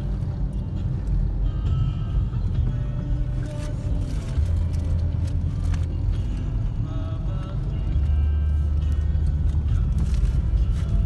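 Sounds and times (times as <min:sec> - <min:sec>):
car driving rumble: 0:00.0 - 0:11.0
faint music: 0:00.0 - 0:11.0.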